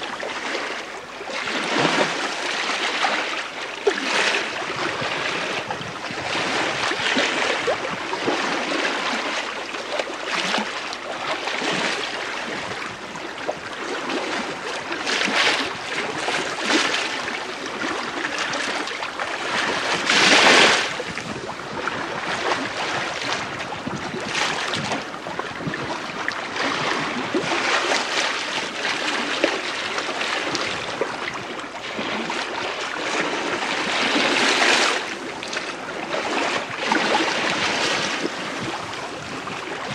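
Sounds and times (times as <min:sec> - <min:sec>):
water washing along hull: 0:00.0 - 0:39.9.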